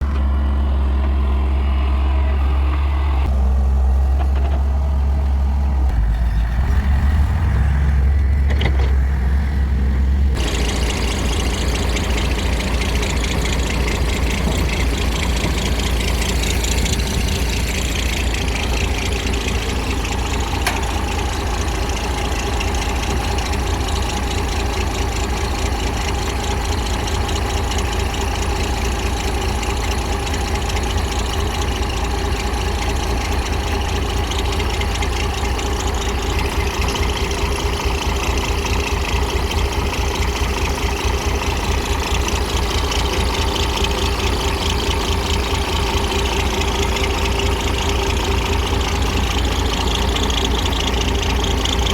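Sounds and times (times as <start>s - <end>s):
heavy diesel engines rumbling: 0.0s - 51.9s.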